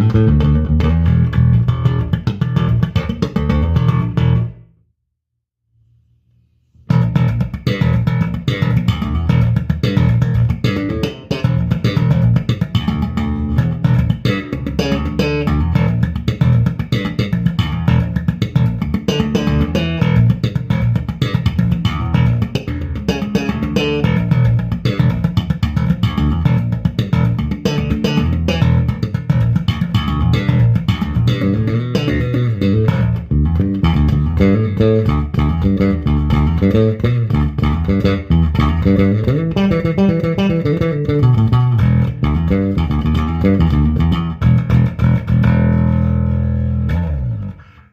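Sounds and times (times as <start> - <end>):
bass guitar playing: 0.0 - 4.8, 6.8 - 47.9.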